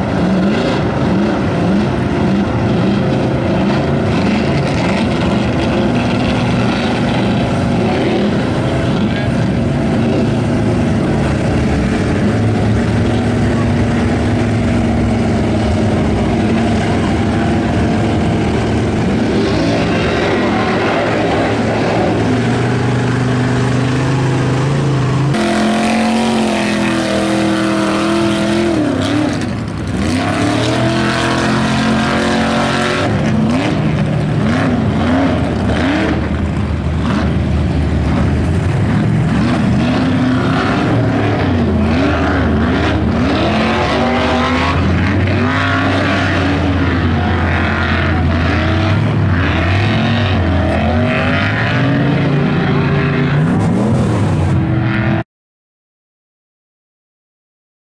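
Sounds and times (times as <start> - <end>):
truck engines revving: 0.0 - 55.2.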